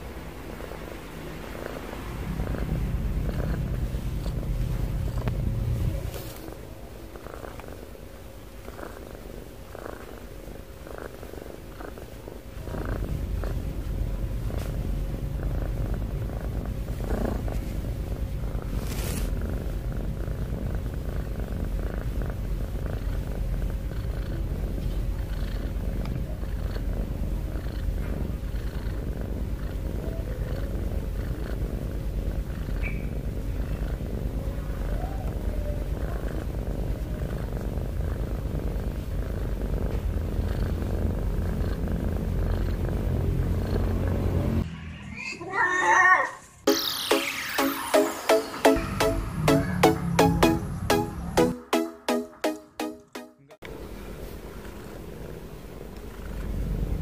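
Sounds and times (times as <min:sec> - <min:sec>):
cat purring: 0:00.0 - 0:44.7, 0:53.7 - 0:57.0.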